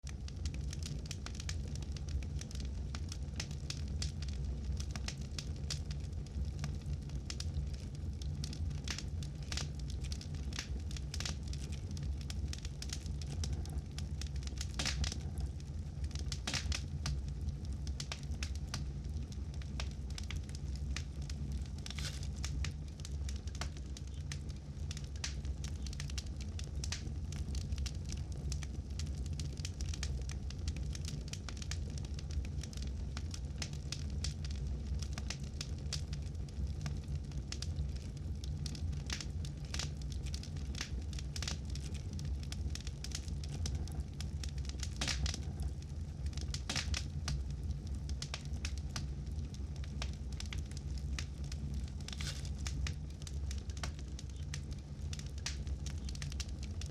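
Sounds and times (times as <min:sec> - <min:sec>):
burning wood crackling: 0:00.0 - 0:56.9
rumble of flames: 0:00.0 - 0:56.9.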